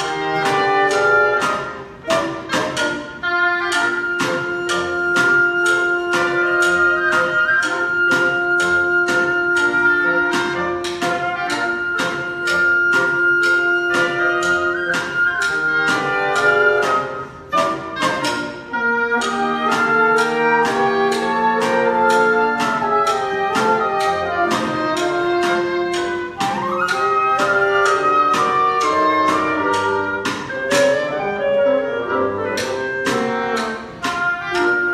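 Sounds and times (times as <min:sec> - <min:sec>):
sharp percussive strokes: 0:00.0 - 0:31.5, 0:32.1 - 0:34.9
bassoon: 0:00.0 - 0:34.9
clarinet: 0:00.0 - 0:34.9
flute: 0:00.0 - 0:34.9
oboe: 0:00.0 - 0:34.9.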